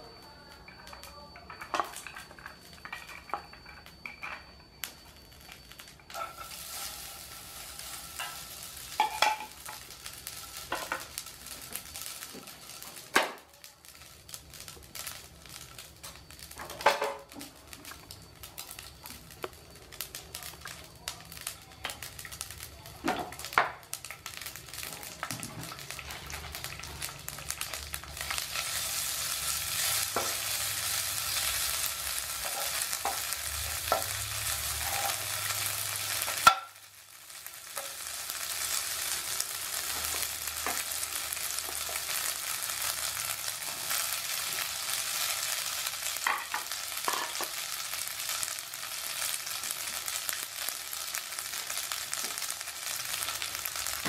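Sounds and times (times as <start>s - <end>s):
noodles sizzling in oil: 0.0s - 54.0s.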